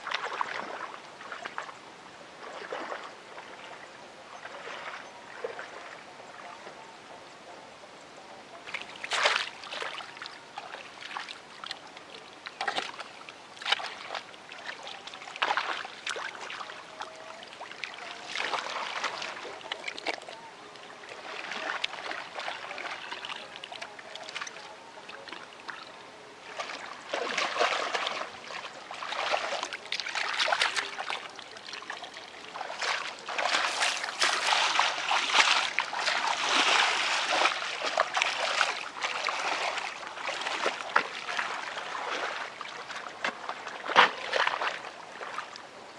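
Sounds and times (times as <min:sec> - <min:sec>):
splashing in muddy water: 0:00.0 - 0:01.8, 0:02.4 - 0:03.8, 0:04.4 - 0:06.7, 0:08.6 - 0:45.8.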